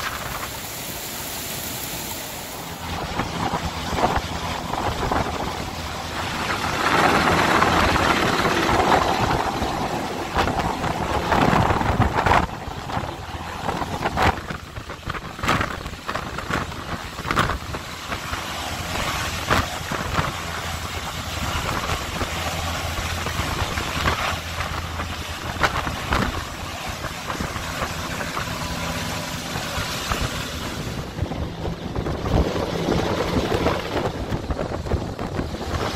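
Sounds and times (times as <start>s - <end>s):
downwash buffeting microphone: 0.0s - 35.9s
helicopter rotor and turbine noise: 0.0s - 35.9s.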